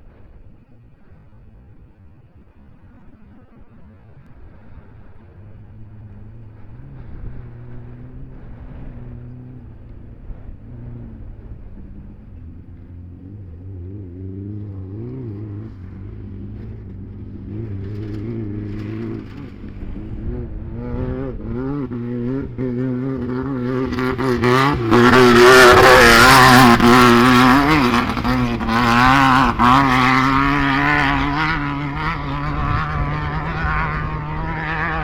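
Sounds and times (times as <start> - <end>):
utv engines revving: 1.8 - 35.0.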